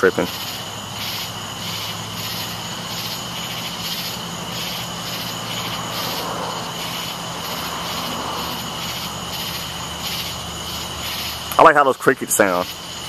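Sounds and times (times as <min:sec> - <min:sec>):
crickets chirping: 0:00.0 - 0:13.0
low steady drone: 0:00.0 - 0:13.0.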